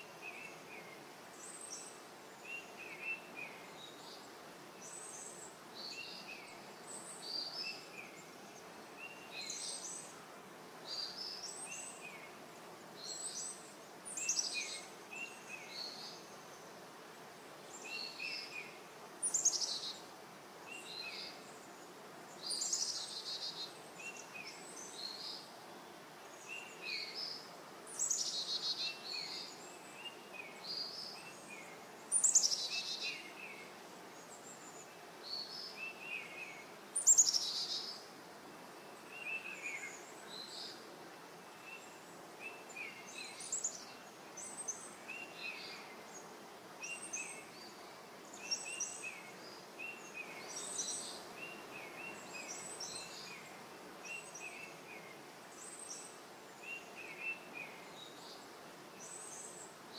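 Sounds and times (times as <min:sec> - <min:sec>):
downward-sweeping birdsong: 0:00.0 - 0:59.9
faint outdoor hiss: 0:00.0 - 0:59.9.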